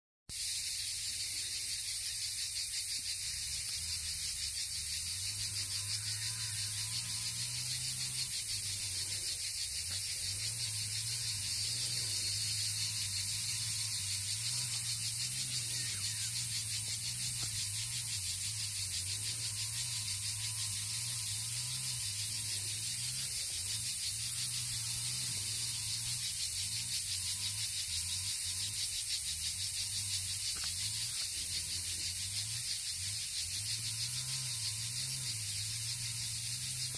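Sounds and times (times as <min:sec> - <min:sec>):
crickets chirping: 0:00.3 - 0:36.9.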